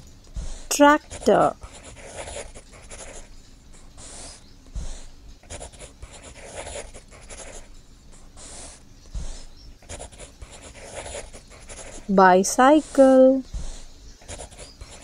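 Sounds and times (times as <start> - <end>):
pencil scratching on paper: 0.4 - 15.0.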